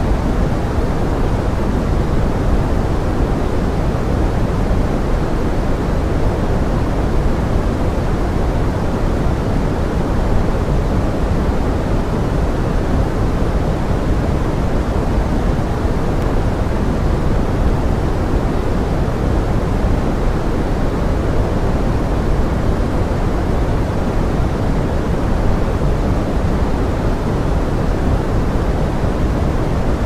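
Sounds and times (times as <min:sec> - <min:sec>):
low pink noise hiss: 0:00.0 - 0:30.0.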